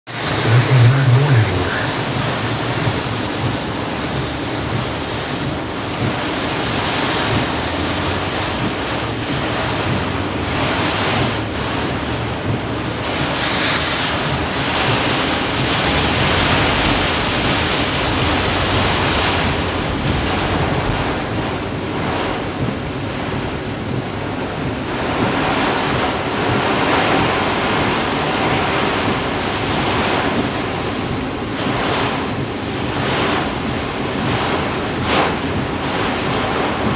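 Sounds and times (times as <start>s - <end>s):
surf crashing: 0.1s - 36.9s
wind buffeting microphone: 1.9s - 36.9s.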